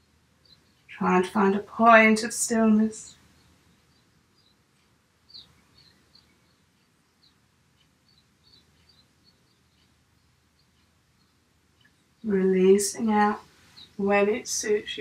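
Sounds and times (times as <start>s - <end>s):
faint high bird chirps: 0.0s - 15.0s.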